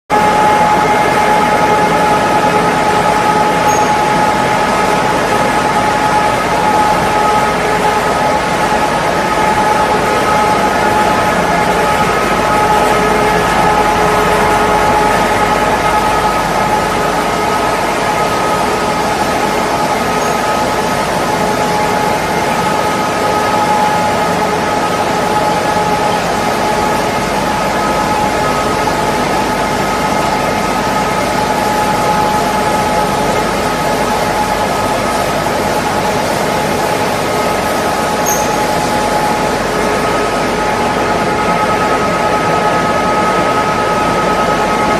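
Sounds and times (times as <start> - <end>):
constant machine whine: 0.1 - 44.9
pellet mill mechanical din: 0.1 - 44.9.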